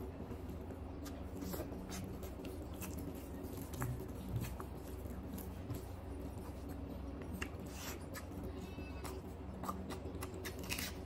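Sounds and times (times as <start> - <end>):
fingers squishing rice: 0.0 - 11.0
man chewing food: 0.0 - 11.0
steady low hum: 0.0 - 11.0.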